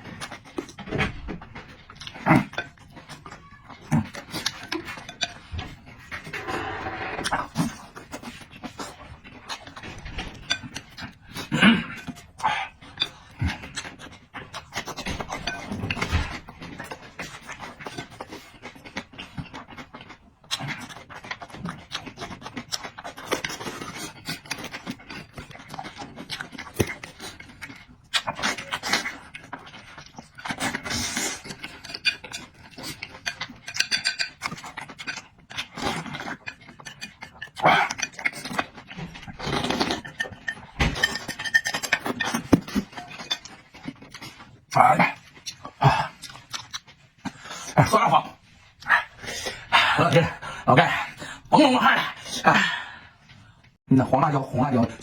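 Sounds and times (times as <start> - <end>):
person chewing wetly: 1.6 - 51.5.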